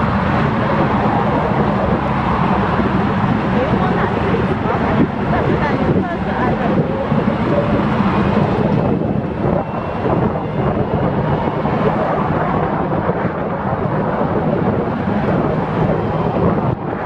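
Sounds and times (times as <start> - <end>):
tyre and road noise: 0.0 - 17.0
wind rushing over microphone: 0.0 - 17.0.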